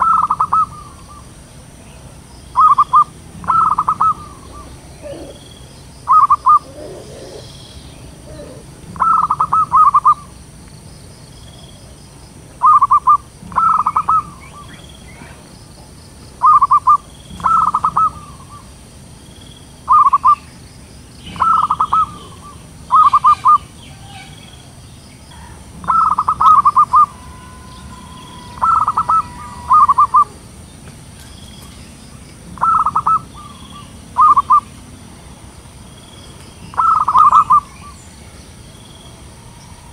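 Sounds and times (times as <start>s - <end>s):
doves cooing: 0.0s - 10.4s, 11.6s - 18.9s, 19.8s - 20.5s, 21.2s - 35.5s, 36.7s - 39.9s.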